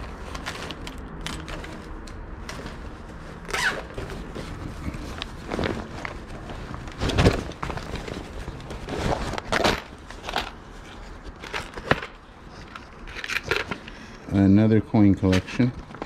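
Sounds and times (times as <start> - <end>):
items and bags being handled: 0.0 - 16.0.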